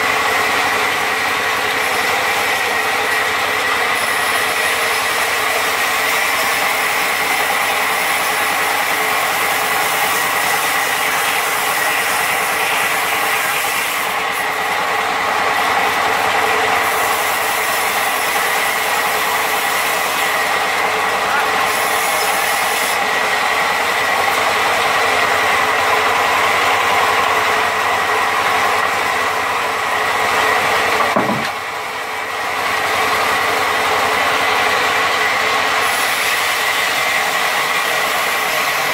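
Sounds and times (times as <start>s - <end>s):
band saw cutting a log: 0.0s - 38.9s.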